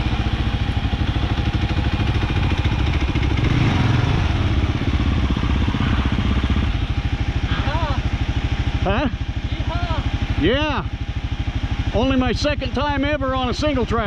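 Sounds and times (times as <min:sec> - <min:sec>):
motorcycle engine chugging: 0:00.0 - 0:14.0.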